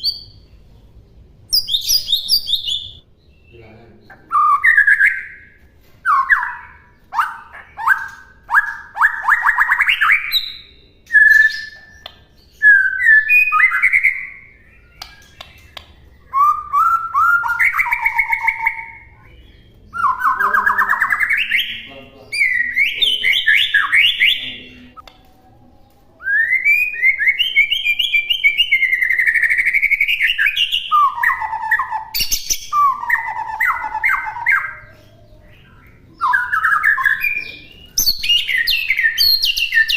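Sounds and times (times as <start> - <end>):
songbird singing varied song: 1.4 - 25.2, 26.2 - 39.9.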